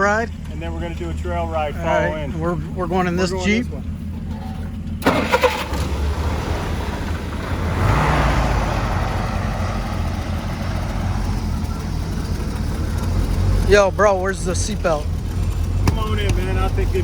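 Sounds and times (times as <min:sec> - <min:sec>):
engine rumbling and revving: 0:00.0 - 0:17.0.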